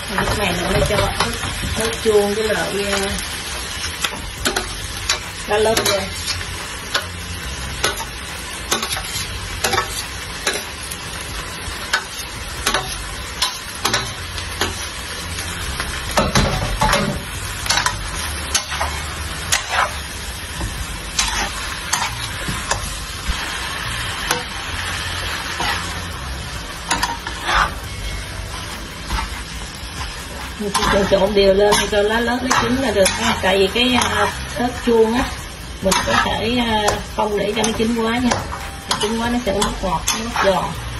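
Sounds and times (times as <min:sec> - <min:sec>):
food sizzling in a pan: 0:00.0 - 0:40.9
metal spatula scraping a pan: 0:00.0 - 0:40.9.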